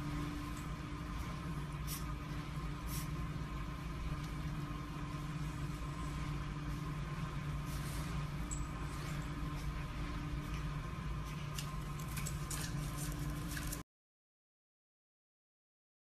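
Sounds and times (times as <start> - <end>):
low hum with faint tones: 0.0 - 13.8.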